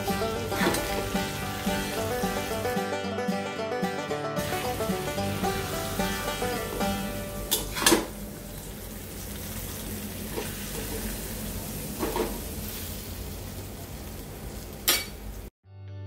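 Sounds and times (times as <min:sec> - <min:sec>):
fish sizzling in oil: 0:00.0 - 0:02.7, 0:04.4 - 0:15.5.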